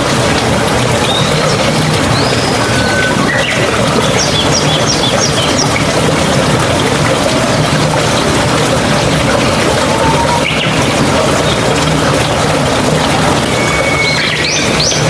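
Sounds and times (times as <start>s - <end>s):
trickling stream: 0.0s - 15.0s.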